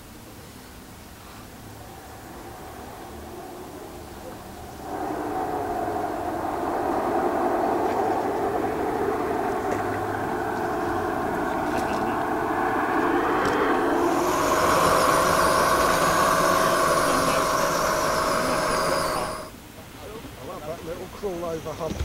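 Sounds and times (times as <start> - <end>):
model trains mechanical whine: 0.0 - 19.6.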